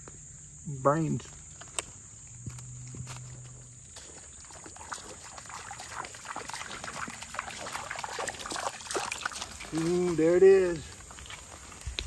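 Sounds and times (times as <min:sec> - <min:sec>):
creek water trickling: 0:00.9 - 0:12.0.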